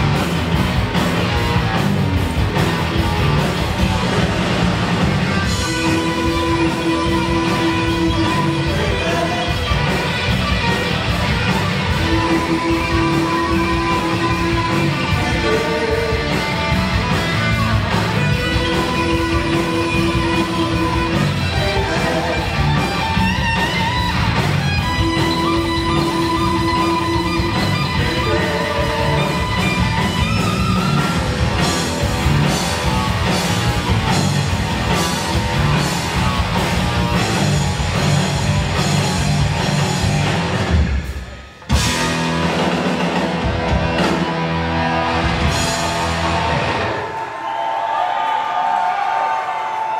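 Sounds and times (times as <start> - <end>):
driving drum beat: 0.0 - 46.9
lead guitar long notes: 0.0 - 47.2
heavy metal band playing: 0.0 - 47.5.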